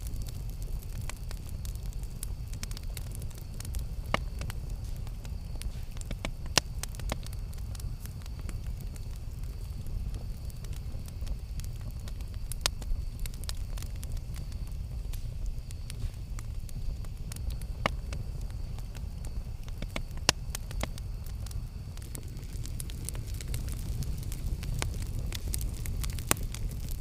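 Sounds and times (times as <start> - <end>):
campfire crackling pops: 0.0 - 27.0
low fire rumble: 0.0 - 27.0.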